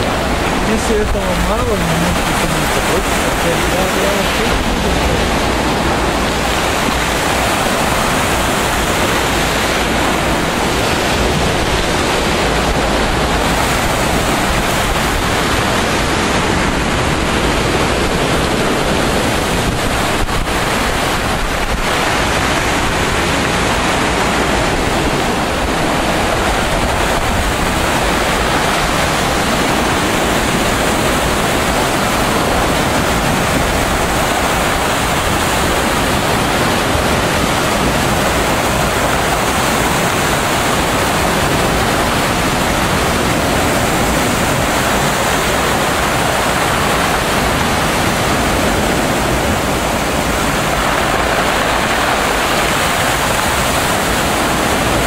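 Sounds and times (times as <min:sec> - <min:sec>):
sea surf: 0:00.0 - 0:55.0
wind: 0:00.0 - 0:55.0
wind buffeting microphone: 0:00.0 - 0:55.0.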